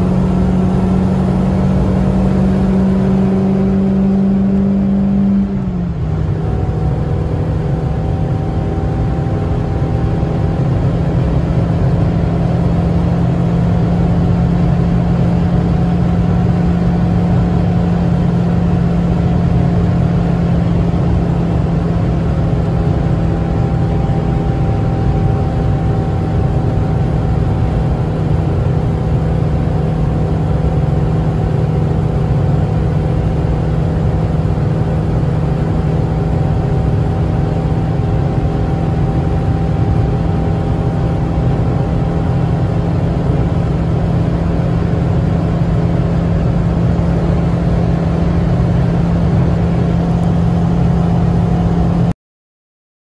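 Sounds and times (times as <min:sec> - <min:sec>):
car engine running hard: 0:00.0 - 0:52.1.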